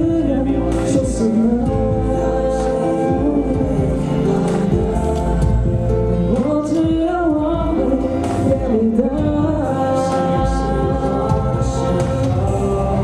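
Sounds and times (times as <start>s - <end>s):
instrumental accompaniment: 0.0s - 13.0s
man singing into a microphone: 0.0s - 13.0s.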